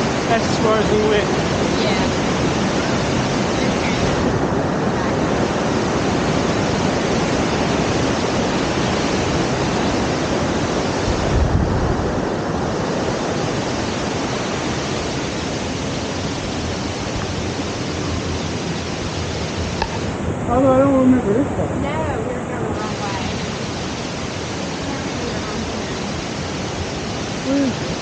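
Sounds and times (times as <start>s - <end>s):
waterfall rushing roar: 0.0s - 28.0s.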